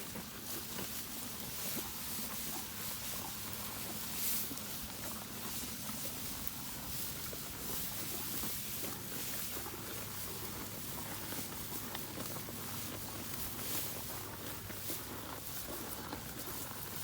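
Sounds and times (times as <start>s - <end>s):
cattle chewing hay: 0.0s - 17.0s.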